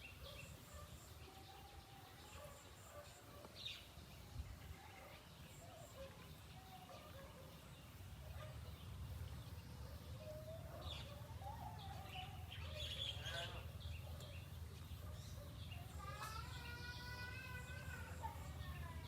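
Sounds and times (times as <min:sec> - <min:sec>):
bird chirps and calls: 0:00.0 - 0:19.0.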